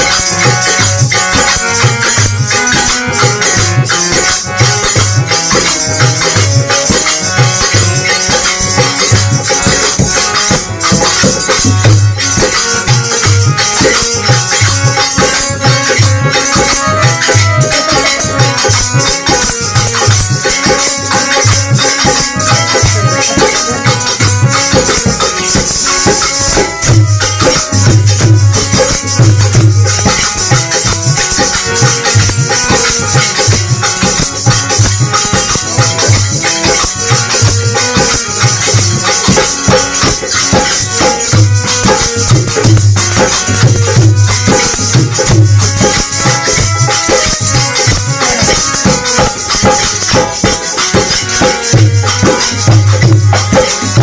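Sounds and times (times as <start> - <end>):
held melodic line: 0.0 - 54.0
jingling shaking percussion: 0.0 - 54.0.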